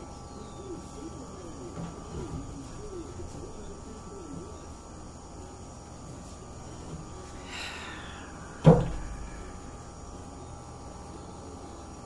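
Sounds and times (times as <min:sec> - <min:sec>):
faint wavering low sounds: 0:00.0 - 0:12.0
low background hum: 0:00.0 - 0:12.0
night insects chirring: 0:00.0 - 0:12.0.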